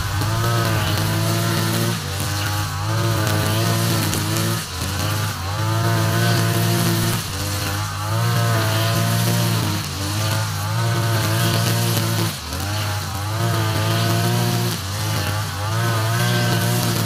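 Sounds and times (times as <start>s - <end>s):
brush cutter engine: 0.0s - 17.0s
trimmer line cutting grass: 0.0s - 17.0s.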